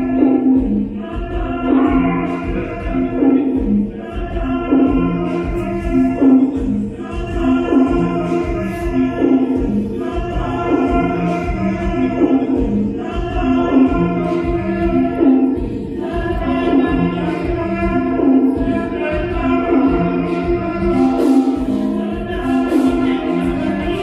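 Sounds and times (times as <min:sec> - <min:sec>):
electronic music with steady beat: 0:00.0 - 0:24.0.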